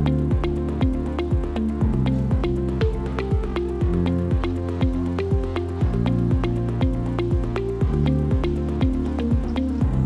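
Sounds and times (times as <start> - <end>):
electronic kick drum: 0.0 - 10.0.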